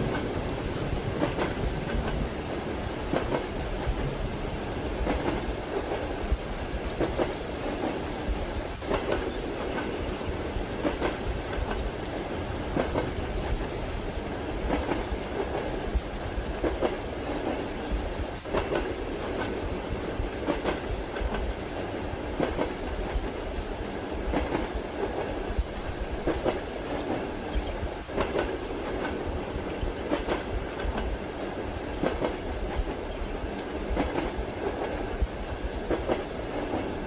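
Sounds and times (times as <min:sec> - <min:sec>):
train wheels clacking over rail joints: 0:00.0 - 0:13.8, 0:14.4 - 0:23.4, 0:24.2 - 0:37.0
rain: 0:00.0 - 0:37.0
train running rumble: 0:00.0 - 0:37.0.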